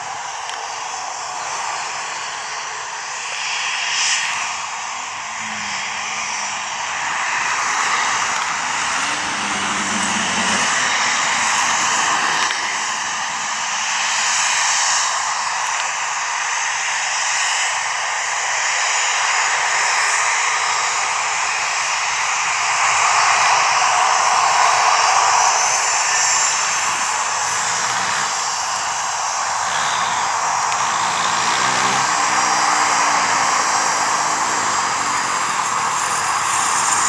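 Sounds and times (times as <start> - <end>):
jet aircraft engines running: 0.0 - 37.0.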